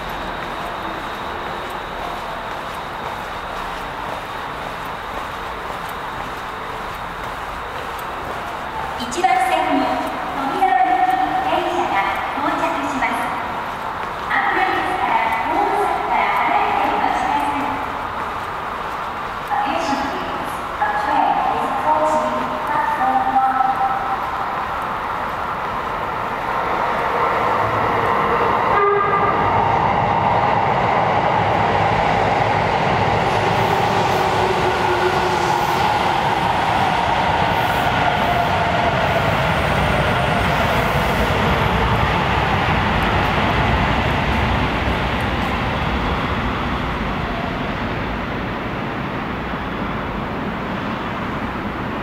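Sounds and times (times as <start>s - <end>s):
subway train running noise: 0.0s - 52.0s.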